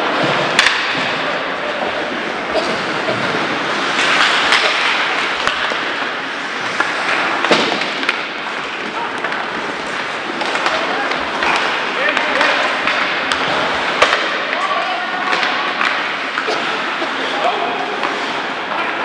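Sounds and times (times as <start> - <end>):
hockey sticks and puck clacking: 0.0 - 19.0
steady hiss of hockey play: 0.0 - 19.0.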